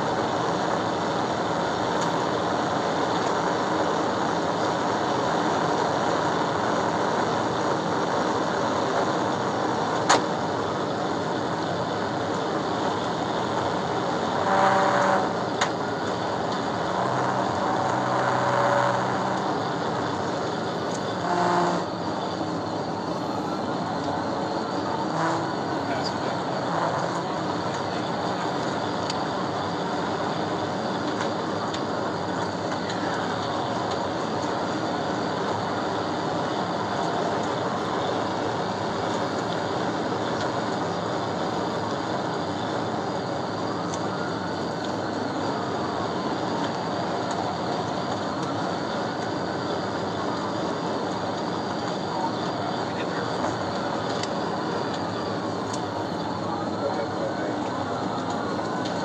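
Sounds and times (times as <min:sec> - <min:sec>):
road wind and engine noise: 0:00.0 - 0:59.0.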